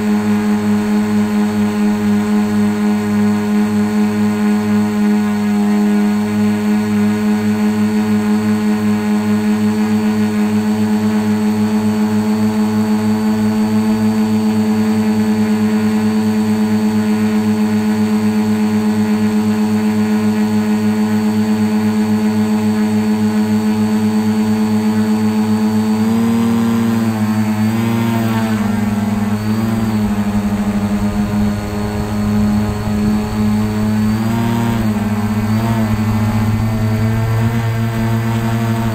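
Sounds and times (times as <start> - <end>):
drone propellers droning: 0.0 - 38.9.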